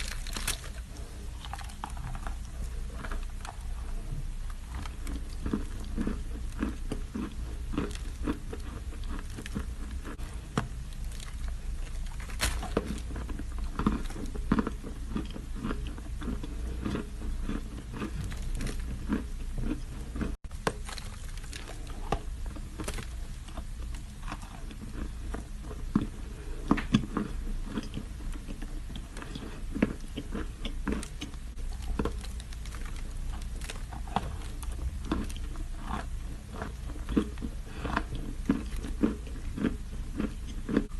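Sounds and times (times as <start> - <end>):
person chewing chalk: 0.0 - 40.9.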